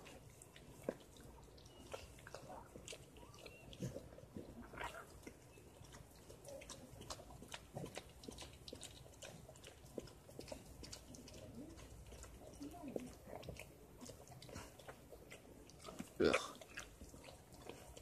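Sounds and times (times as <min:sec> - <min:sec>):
dog licking puppy wet smacks: 0:00.0 - 0:18.0.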